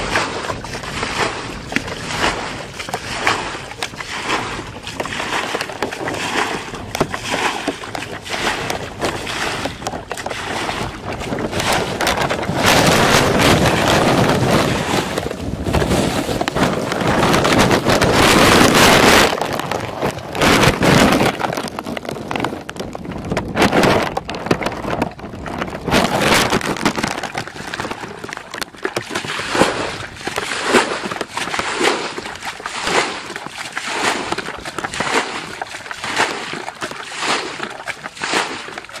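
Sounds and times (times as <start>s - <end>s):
muddy water sloshing and splashing: 0.0s - 39.0s.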